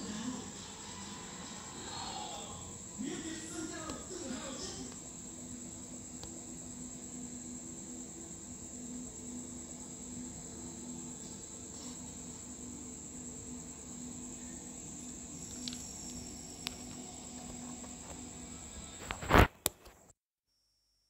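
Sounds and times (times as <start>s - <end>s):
high-pitched whine: 0.0s - 19.5s
faint hum and hiss: 0.0s - 20.1s.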